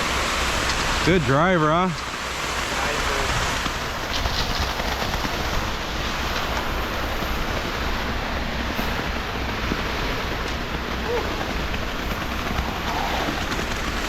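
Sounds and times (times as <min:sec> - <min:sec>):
wet concrete rushing down chute: 0:00.0 - 0:14.0.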